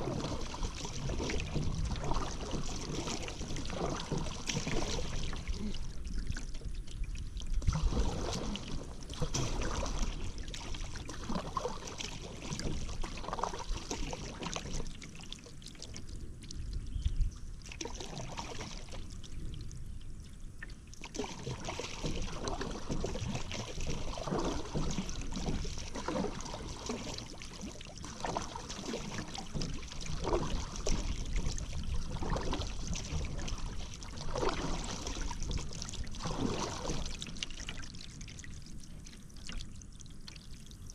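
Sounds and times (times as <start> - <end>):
paddle strokes in water: 0.0 - 40.9
water splashing and dribbling: 0.0 - 40.9.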